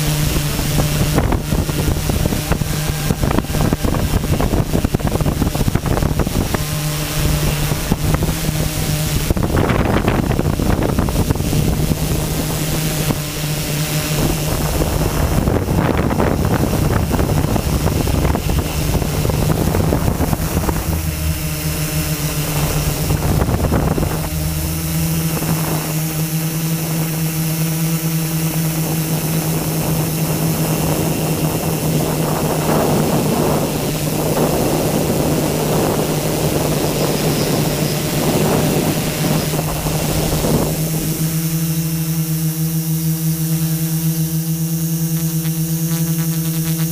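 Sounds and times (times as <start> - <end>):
drone propellers whining: 0.0 - 46.9
wind noise on microphone: 0.0 - 46.9.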